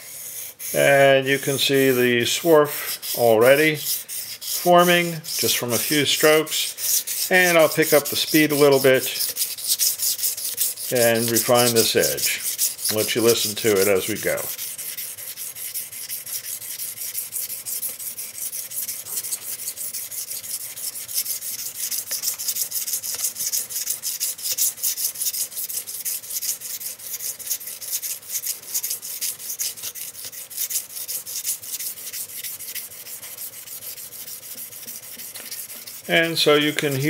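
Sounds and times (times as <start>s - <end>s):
knife scraping on sharpening plate: 2.7s - 37.0s.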